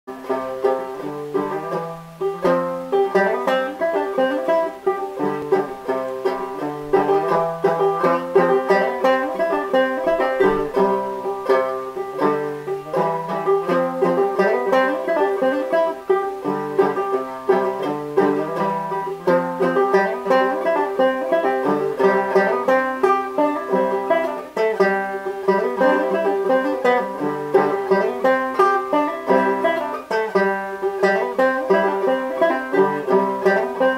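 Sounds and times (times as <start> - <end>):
banjo tune: 0.0 - 33.9.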